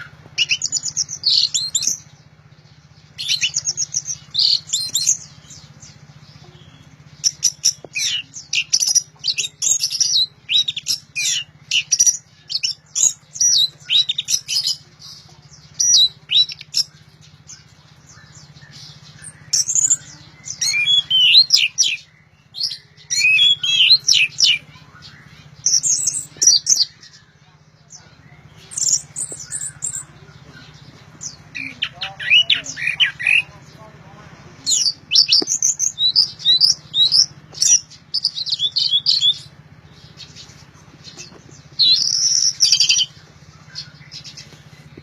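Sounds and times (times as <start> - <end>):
steady low hum: 0.0 - 45.0
thrush singing: 0.0 - 45.0.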